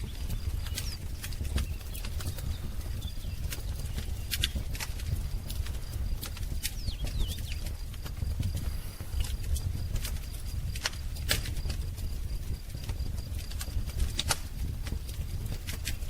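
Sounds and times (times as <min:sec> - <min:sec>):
faint bird song: 0:00.0 - 0:16.0
wood fire crackling: 0:00.0 - 0:16.0.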